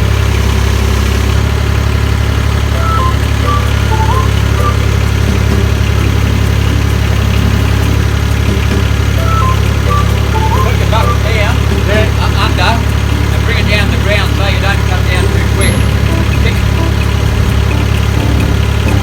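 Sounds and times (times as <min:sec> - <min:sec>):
engine idling: 0:00.0 - 0:19.0
high notes: 0:02.6 - 0:19.0.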